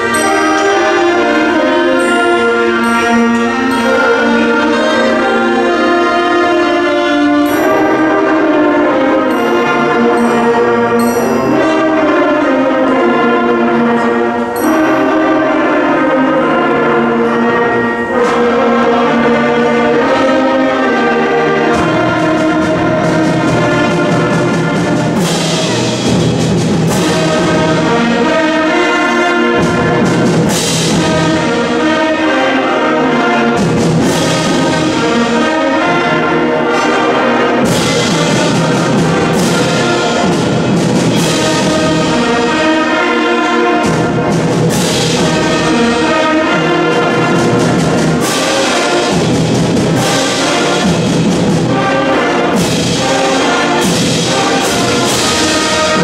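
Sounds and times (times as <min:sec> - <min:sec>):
concert band playing: 0:00.0 - 0:56.0
crashing percussion strikes: 0:00.0 - 0:56.0.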